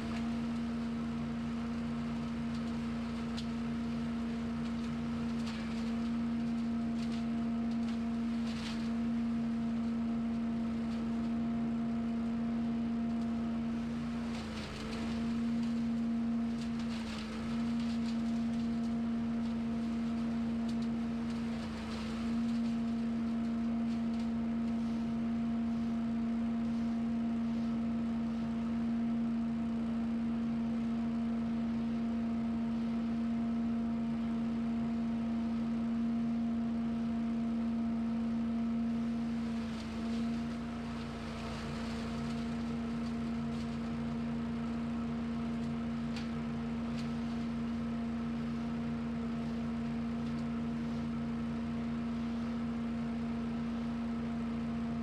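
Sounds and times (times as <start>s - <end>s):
lawn equipment engine droning: 0.0s - 55.0s.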